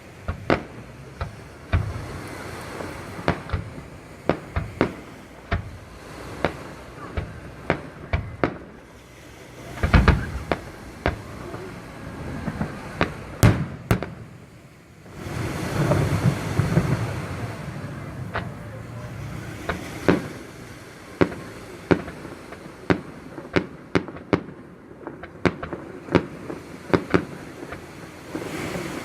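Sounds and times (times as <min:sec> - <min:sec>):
fireworks bangs: 0:00.0 - 0:29.0
loud firework cracks: 0:00.0 - 0:29.0.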